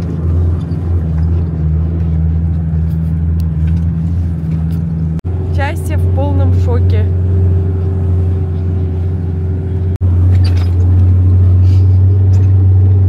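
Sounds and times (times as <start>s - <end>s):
vehicle engine droning under load: 0.0s - 13.0s.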